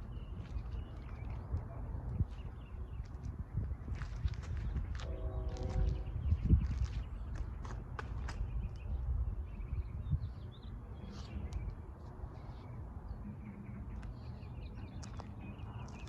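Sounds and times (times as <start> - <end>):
small birds chirping: 0.0 - 5.0, 8.0 - 16.0
low outdoor rumble: 0.0 - 16.0.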